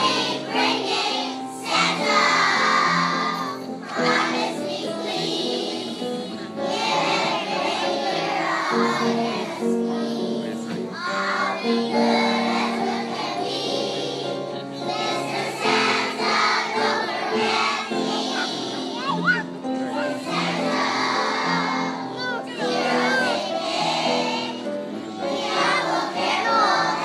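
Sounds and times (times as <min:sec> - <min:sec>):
children singing: 0:00.0 - 0:27.0
music accompaniment: 0:00.0 - 0:27.0.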